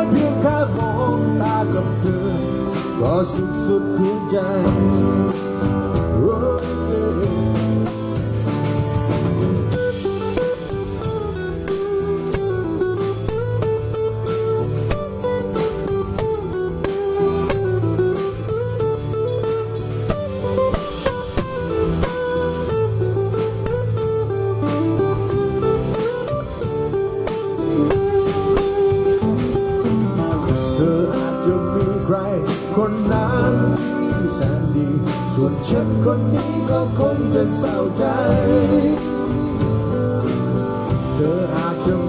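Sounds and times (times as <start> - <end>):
bass: 0.0 - 42.0
drums: 0.0 - 42.0
lead guitar melody: 0.0 - 42.0.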